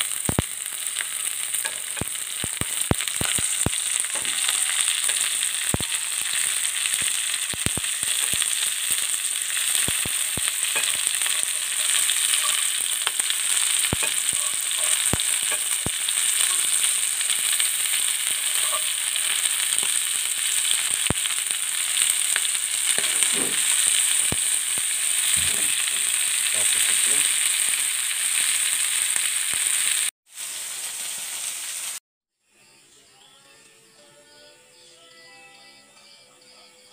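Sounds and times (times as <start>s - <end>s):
shrimp sizzling in hot oil: 0.0s - 32.0s.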